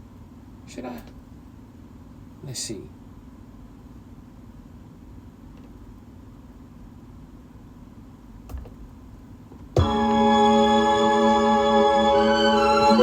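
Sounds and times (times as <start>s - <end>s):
room tone hum and hiss: 0.0s - 13.0s.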